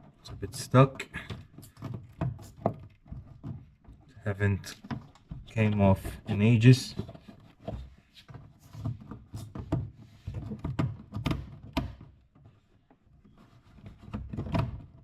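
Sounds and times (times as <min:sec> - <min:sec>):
plastic trim clicking and knocking: 0:00.0 - 0:15.0.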